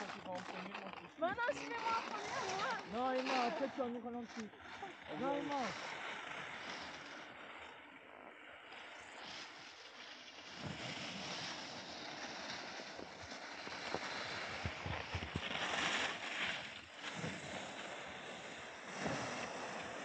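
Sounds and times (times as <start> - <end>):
skis scraping over snow: 0.0 - 20.0.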